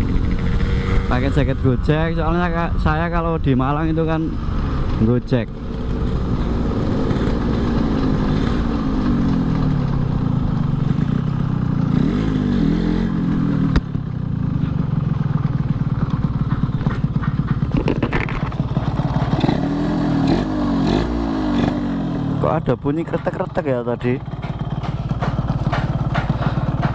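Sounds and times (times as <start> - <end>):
two-stroke motorcycle engine: 0.0 - 26.9.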